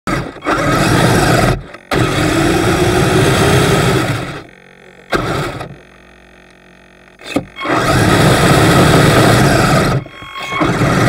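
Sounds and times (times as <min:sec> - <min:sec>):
toy motors and metal tracks running: 0:00.1 - 0:05.8, 0:07.2 - 0:11.0.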